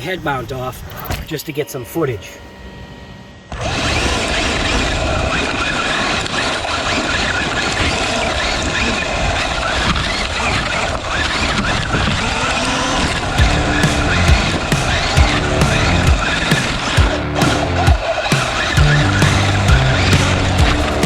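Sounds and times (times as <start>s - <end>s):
rc car running with air rushing: 3.5s - 21.0s.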